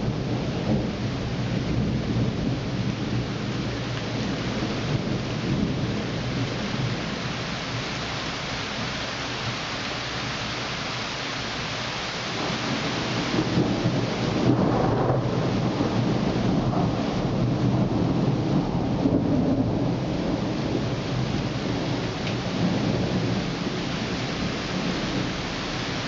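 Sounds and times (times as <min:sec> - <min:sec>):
thunder rumbling: 0:00.0 - 0:07.8, 0:12.3 - 0:26.0
steady rain: 0:00.0 - 0:26.0.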